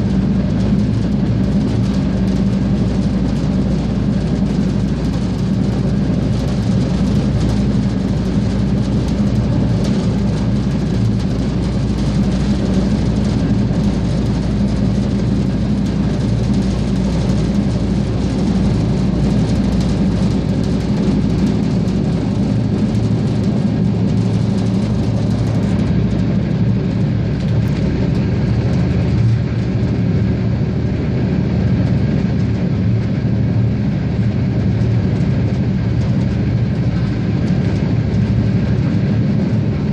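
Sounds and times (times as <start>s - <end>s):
diesel railcar engine drone: 0.0s - 39.9s.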